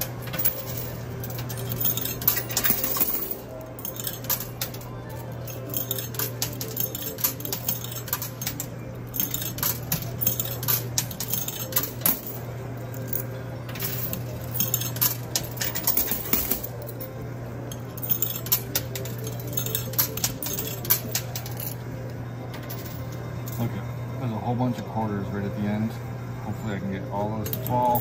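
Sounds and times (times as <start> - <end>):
coins clinking and clattering: 0.0 - 23.7, 27.4 - 28.0
low machine hum: 0.0 - 28.0.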